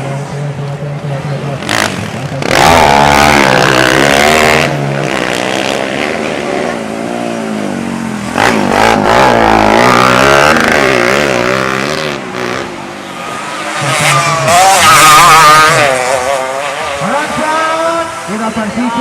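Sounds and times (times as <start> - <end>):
motorcycle engines revving past: 0.0 - 19.0.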